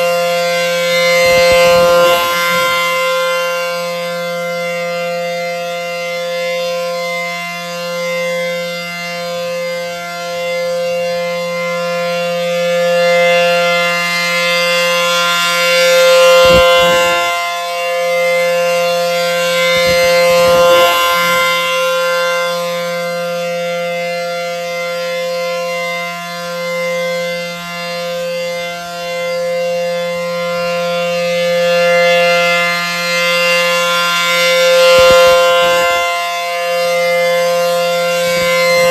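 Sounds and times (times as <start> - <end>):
dual-tone warning siren: 0.0 - 38.9.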